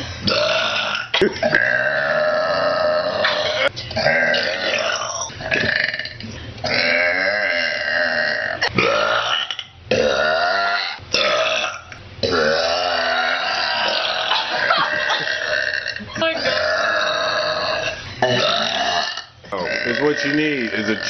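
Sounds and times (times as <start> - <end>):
girls burping: 0.2 - 21.0.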